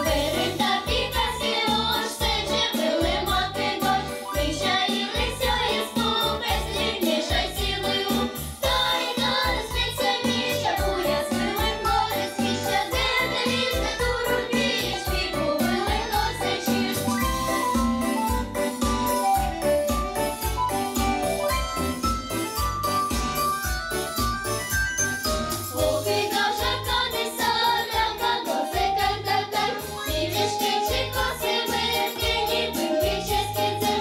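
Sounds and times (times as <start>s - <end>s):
backing track with steady beat: 0.0s - 34.0s.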